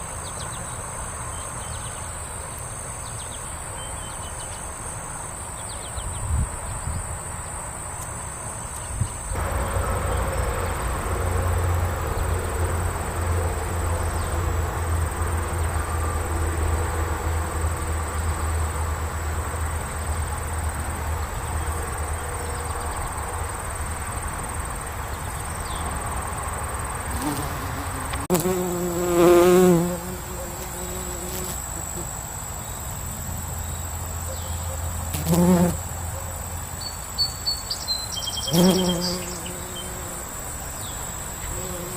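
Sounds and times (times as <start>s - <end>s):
crickets droning: 0.0s - 41.9s
insects buzzing: 0.0s - 41.9s.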